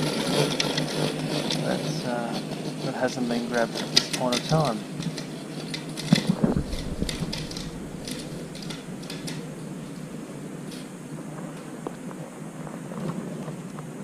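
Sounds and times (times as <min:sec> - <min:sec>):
robot lawn mower humming: 0:00.0 - 0:13.6.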